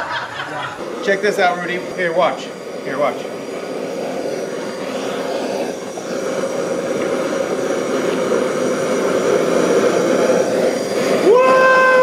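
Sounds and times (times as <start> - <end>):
butane torch roaring: 0.0 - 12.0.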